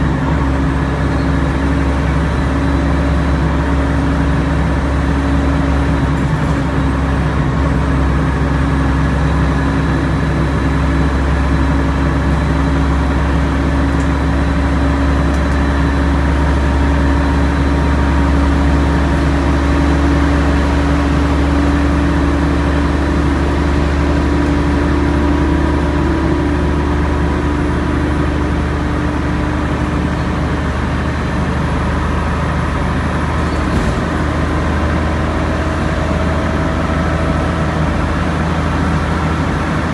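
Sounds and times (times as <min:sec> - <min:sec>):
bus engine drone with whine: 0:00.0 - 0:39.9.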